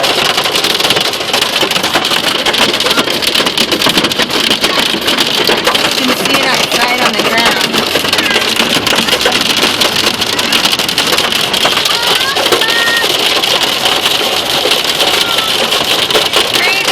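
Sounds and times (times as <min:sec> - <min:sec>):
heavy rain on car roof: 0:00.0 - 0:16.9.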